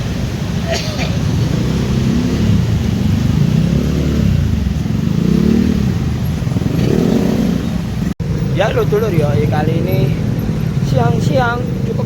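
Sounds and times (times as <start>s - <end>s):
motorcycles passing: 0.0s - 12.0s
steady traffic rumble: 0.0s - 12.0s.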